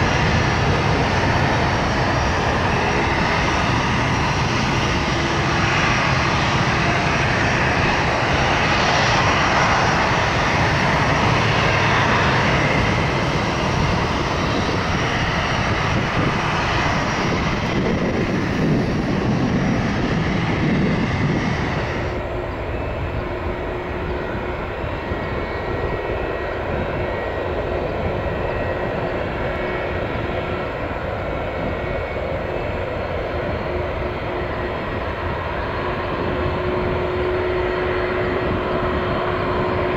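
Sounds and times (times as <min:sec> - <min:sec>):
jet airliner noise: 0:00.0 - 0:39.9.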